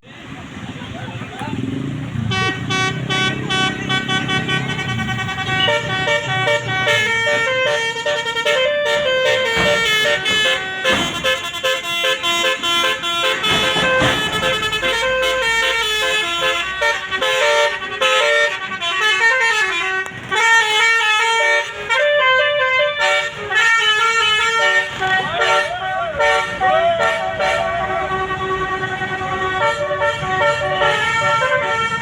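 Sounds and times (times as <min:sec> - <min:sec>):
bus musical air horn tune: 0:02.2 - 0:32.0.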